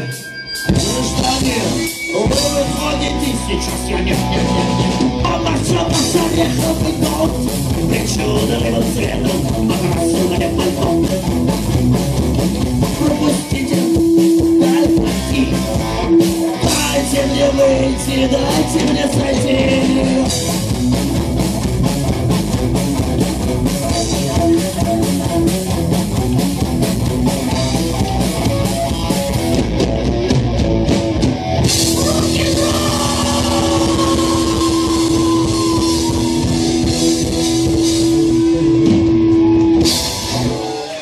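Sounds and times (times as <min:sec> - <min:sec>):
bass guitar: 0:00.0 - 0:41.0
distorted electric guitar: 0:00.0 - 0:41.0
fast driving drums: 0:00.0 - 0:41.0.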